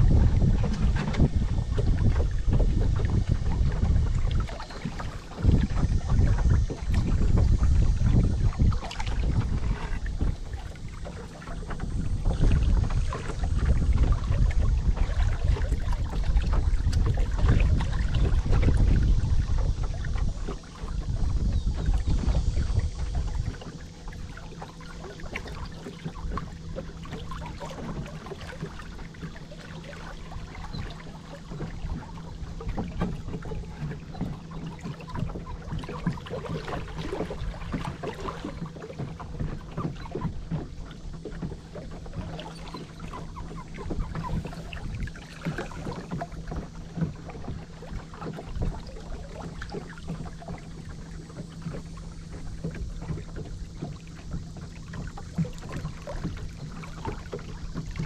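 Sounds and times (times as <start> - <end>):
boat motor hum: 0.0 - 58.0
water splashing against hull: 0.0 - 58.0.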